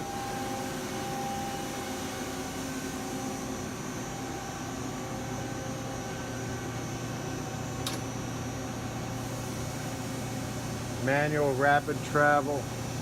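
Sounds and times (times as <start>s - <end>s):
lathe machine hum: 0.0s - 13.0s.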